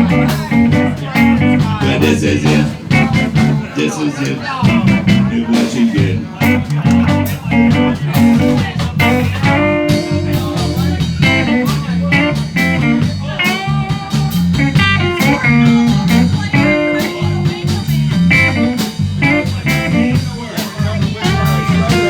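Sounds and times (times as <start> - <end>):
bass and drum beat: 0.0 - 22.0.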